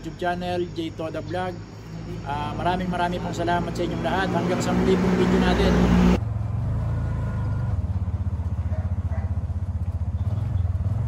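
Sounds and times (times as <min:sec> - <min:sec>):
engine puttering: 0:01.0 - 0:11.0.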